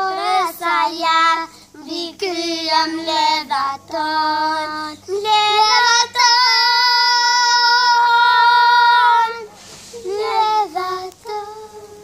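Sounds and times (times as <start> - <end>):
girls singing: 0.0 - 12.0.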